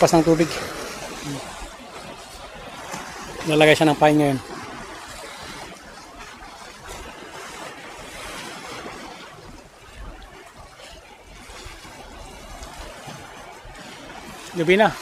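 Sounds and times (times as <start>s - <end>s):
sea water washing against shore: 0.0s - 15.0s.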